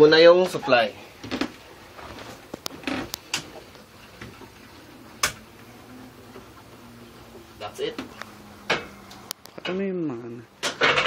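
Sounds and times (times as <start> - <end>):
steady low hum: 0.9 - 10.8.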